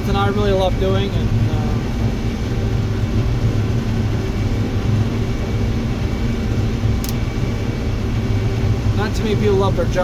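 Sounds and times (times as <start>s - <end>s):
combine harvester drone: 0.0s - 10.0s.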